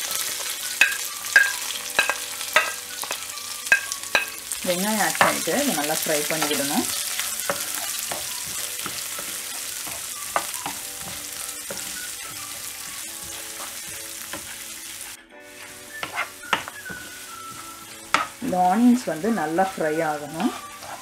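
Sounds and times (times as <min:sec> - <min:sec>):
onions sizzling in hot oil: 0:00.0 - 0:21.0
spatula scraping and tapping pan: 0:00.0 - 0:21.0.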